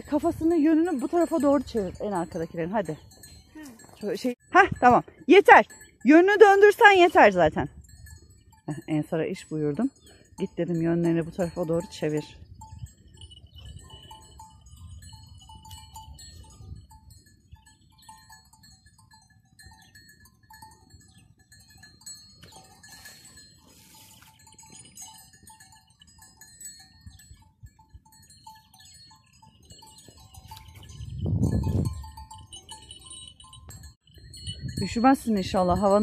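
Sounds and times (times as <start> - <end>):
wind rumbling on microphone: 0.0 - 18.2, 24.4 - 36.0
sheep bells tinkling: 0.0 - 36.0.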